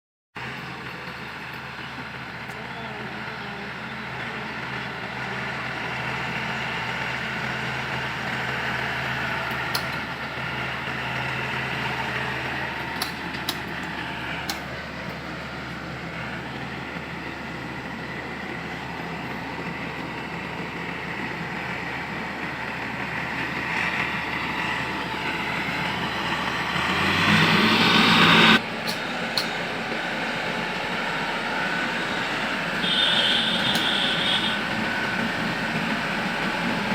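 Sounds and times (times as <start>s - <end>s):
combine harvester running: 0.4s - 36.9s.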